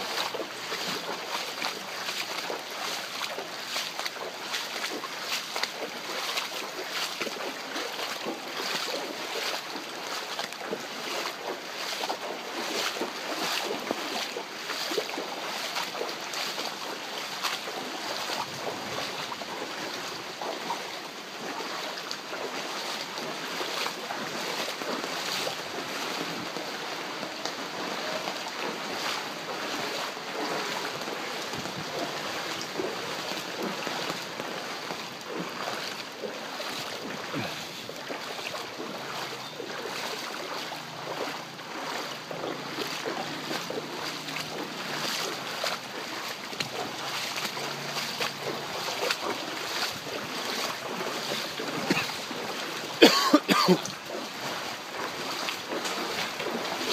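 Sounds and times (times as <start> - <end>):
torrential rain on street: 0.0 - 56.9.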